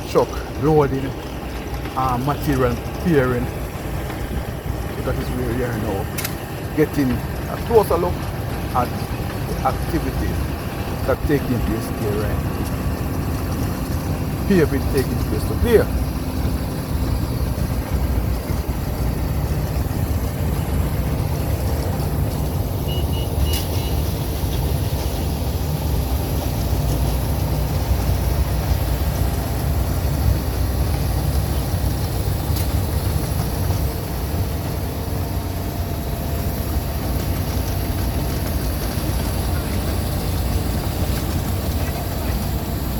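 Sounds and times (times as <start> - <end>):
vehicle engine rumble: 0.0 - 42.9.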